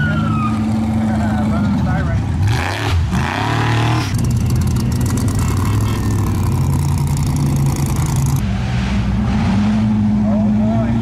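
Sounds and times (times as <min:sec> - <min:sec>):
buggy engine running: 0:00.0 - 0:11.0.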